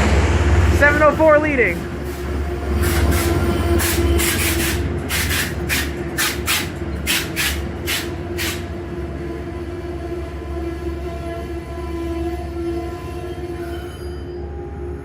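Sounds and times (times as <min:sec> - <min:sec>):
locomotive hum and rumble: 0:00.0 - 0:15.0.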